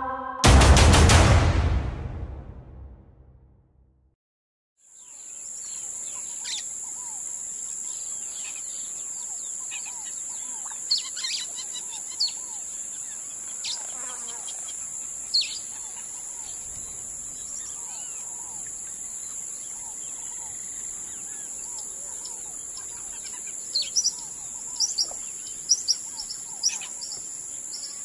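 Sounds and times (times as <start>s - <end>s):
birds chirping: 5.0s - 28.0s.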